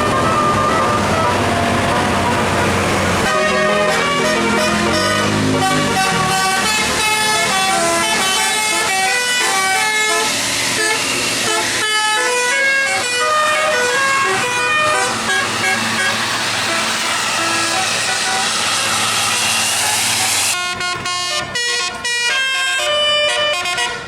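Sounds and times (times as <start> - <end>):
bus horn playing tune: 0.0 - 24.0.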